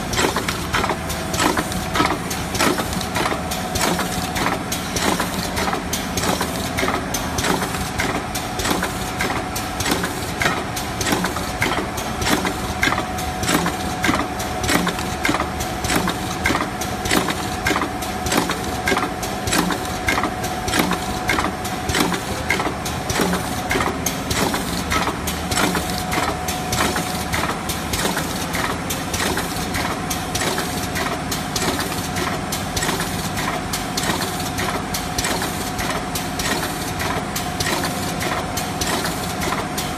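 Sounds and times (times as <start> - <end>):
machine clattering clicks and knocks: 0.0 - 39.9.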